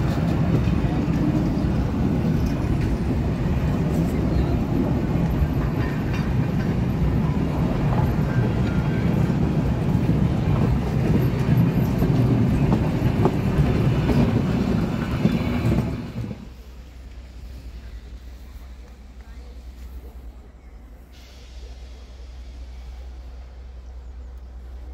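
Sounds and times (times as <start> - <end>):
faint rail clicks: 0.0 - 24.9
steel wheels rumbling on rails: 0.0 - 24.9.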